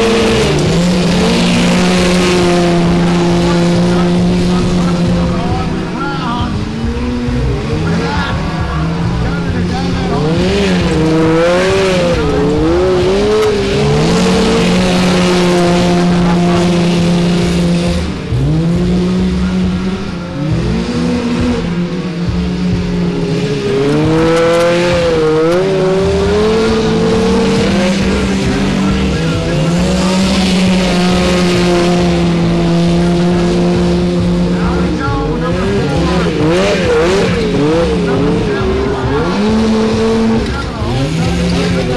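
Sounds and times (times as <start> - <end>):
lawn tractor engines revving: 0.0 - 41.9.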